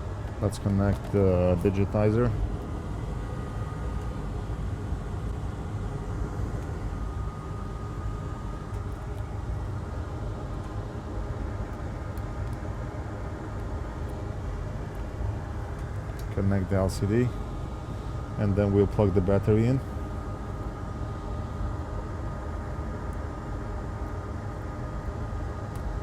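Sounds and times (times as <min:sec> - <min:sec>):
low workshop hum: 0:00.0 - 0:26.0.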